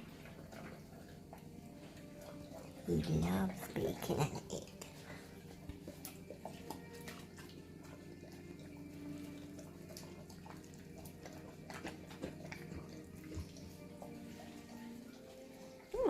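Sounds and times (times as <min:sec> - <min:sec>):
pet chewing and licking: 0:00.0 - 0:16.0.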